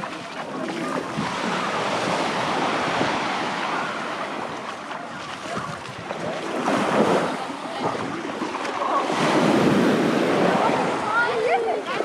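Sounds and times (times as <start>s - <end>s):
waves breaking on sandy beach: 0.0s - 12.0s.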